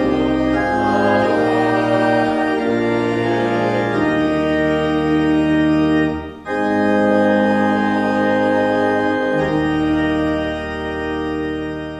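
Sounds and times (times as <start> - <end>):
organ playing sustained chords: 0.0 - 11.9.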